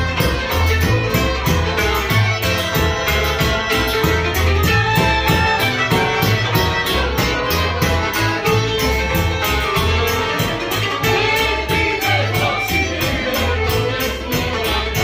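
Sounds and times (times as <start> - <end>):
accordion: 0.0 - 15.0
double bass: 0.0 - 15.0
fiddle: 0.0 - 15.0
folk band playing: 0.0 - 15.0
large drum beat: 0.0 - 15.0.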